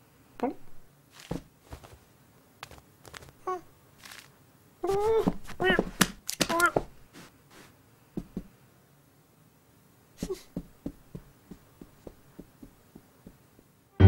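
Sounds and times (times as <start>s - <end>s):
cartoon cat padded footsteps: 0.6s - 8.5s, 10.2s - 13.8s.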